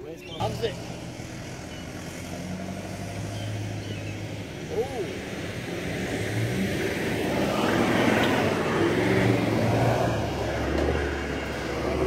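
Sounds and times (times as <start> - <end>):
engines revving hard under load: 0.2 - 12.0.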